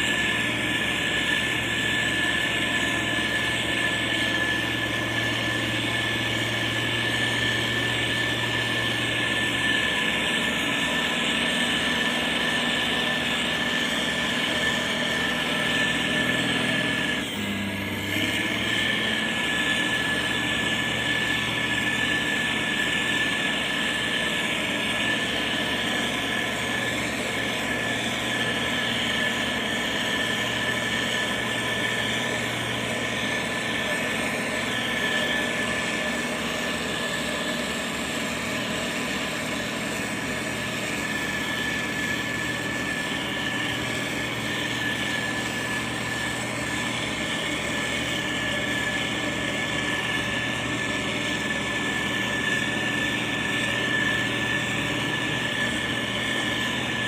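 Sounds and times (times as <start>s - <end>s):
diesel engine running: 0.0s - 57.0s
thin whine: 0.0s - 57.0s.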